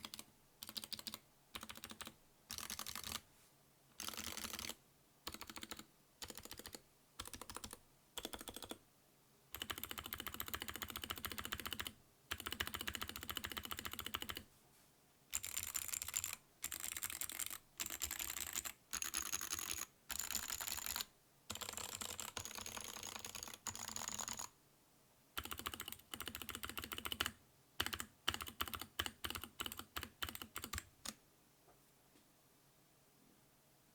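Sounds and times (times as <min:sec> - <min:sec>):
mechanical keyboard typing: 0:00.0 - 0:03.2, 0:04.0 - 0:08.8, 0:09.6 - 0:14.4, 0:15.3 - 0:24.5, 0:25.4 - 0:31.2.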